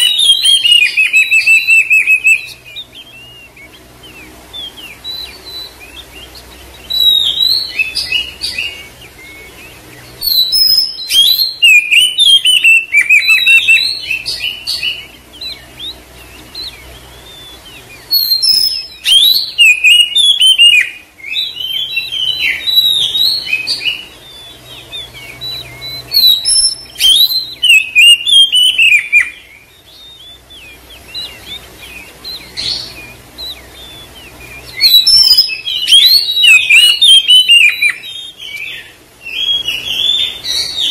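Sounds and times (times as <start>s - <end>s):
bird singing whistled phrases: 0.0s - 40.9s
soft bird twittering: 0.0s - 40.9s.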